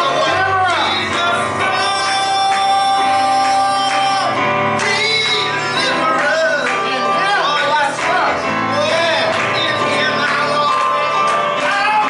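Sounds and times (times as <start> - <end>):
voices singing worship song: 0.0 - 12.0.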